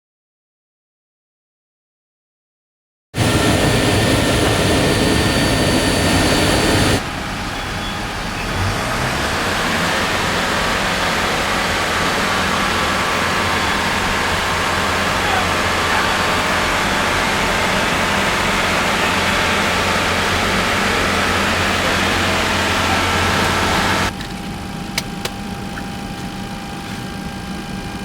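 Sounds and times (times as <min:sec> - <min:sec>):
loud aircraft noise: 0:03.2 - 0:28.0
low hum: 0:03.2 - 0:28.0.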